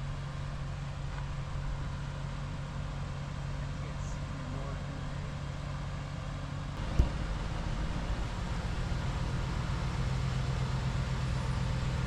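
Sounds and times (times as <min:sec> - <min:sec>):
pickup truck engine running: 0:00.0 - 0:12.0.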